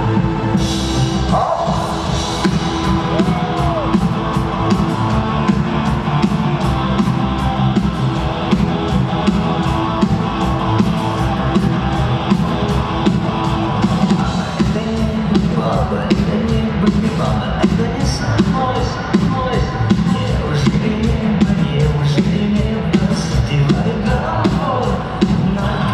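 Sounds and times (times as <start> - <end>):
electric guitars: 0.0 - 25.9
steady drumbeat: 0.0 - 25.9.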